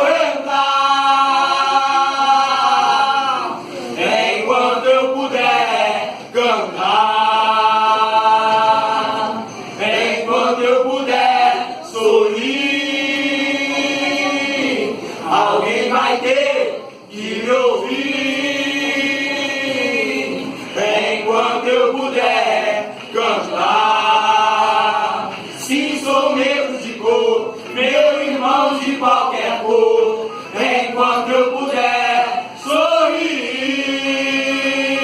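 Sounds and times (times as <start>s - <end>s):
choir singing a cappella: 0.0s - 35.0s.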